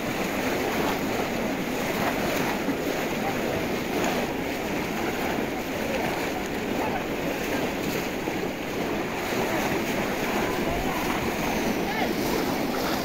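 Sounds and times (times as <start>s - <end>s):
splashing through water: 0.0s - 13.0s
faint distant voices: 0.7s - 13.0s.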